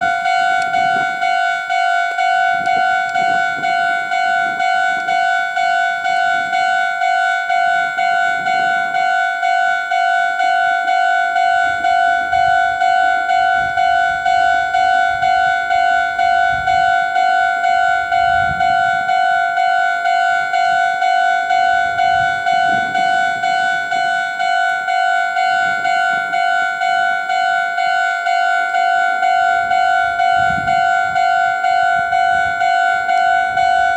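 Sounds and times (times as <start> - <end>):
level crossing bell dinging: 0.0 - 33.9.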